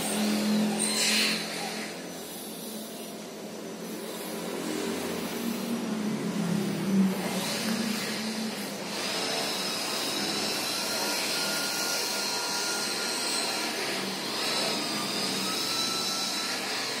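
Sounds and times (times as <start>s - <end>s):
machine whine: 0.0s - 17.0s.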